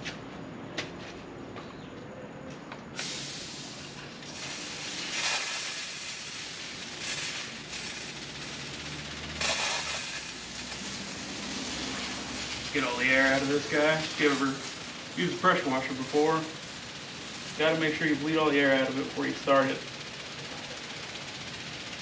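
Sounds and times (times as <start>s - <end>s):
water hissing from pressure washer gun: 3.0s - 22.0s.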